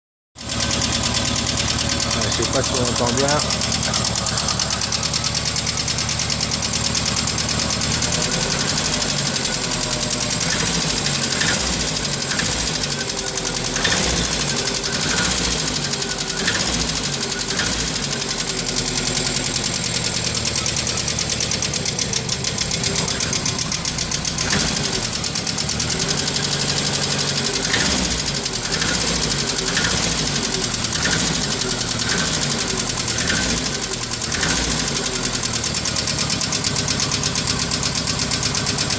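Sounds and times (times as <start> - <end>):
car engine running: 0.4 - 38.9.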